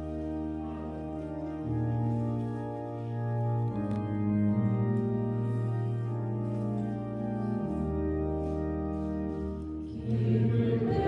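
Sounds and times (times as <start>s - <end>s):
organ playing sustained chords: 0.0s - 11.0s.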